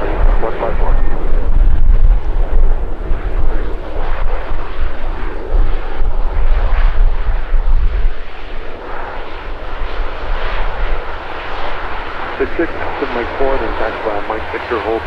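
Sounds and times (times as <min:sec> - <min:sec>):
turboprop airliner engines running: 0:00.0 - 0:15.0.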